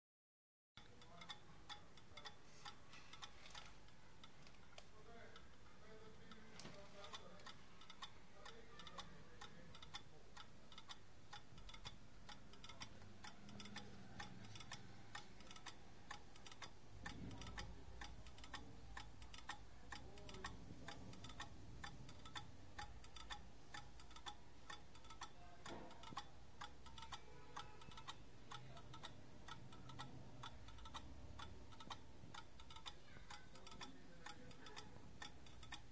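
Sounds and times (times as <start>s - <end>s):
pendulum clock ticking: 0.8s - 35.9s.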